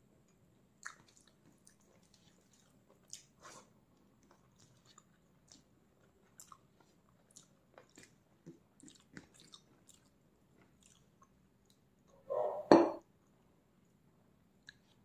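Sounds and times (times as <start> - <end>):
soft chewing: 0.2 - 12.2, 13.1 - 15.0.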